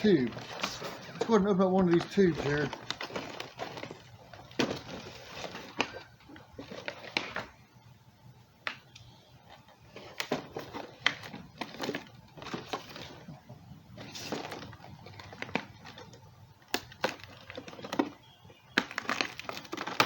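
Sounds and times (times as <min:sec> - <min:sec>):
packaging crackling and rustling: 0:00.0 - 0:07.6, 0:09.5 - 0:20.0.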